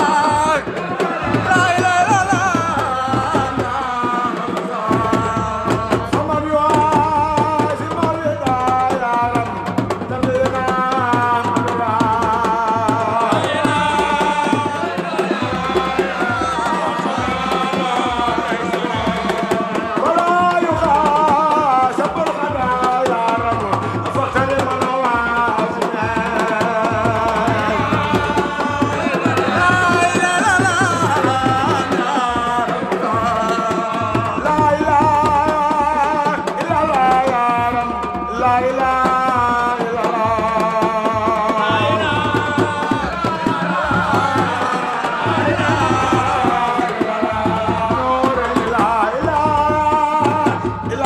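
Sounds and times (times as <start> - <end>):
hand drums: 0.0 - 51.0.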